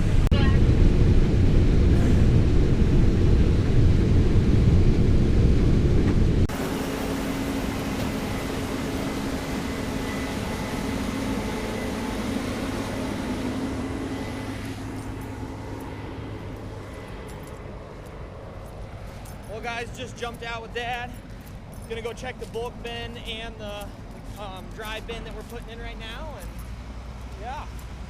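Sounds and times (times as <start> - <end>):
combine harvester rumbling: 0.0 - 28.0
faint machine whine: 0.0 - 28.0.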